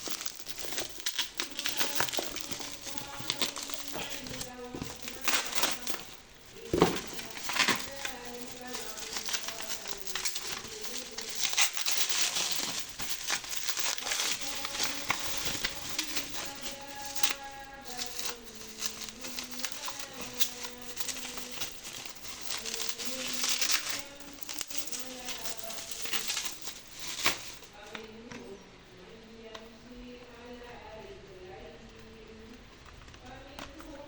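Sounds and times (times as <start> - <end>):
packaging crinkling and rustling: 0.0 - 28.4.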